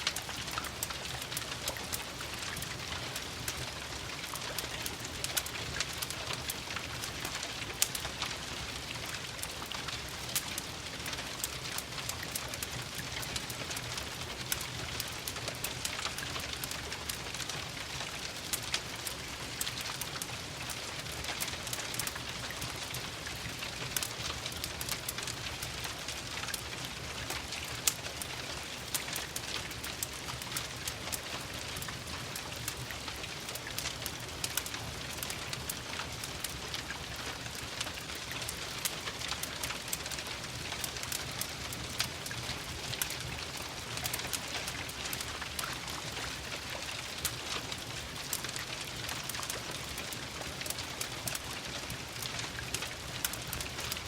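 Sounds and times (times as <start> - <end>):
crackling wood fire: 0.0 - 54.0
steady rain: 0.0 - 54.0.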